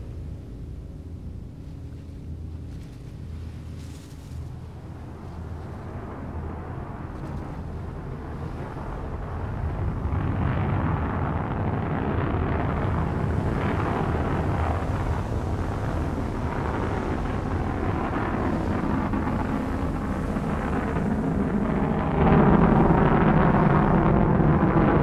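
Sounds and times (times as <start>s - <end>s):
deep steady rumble: 0.0s - 25.0s.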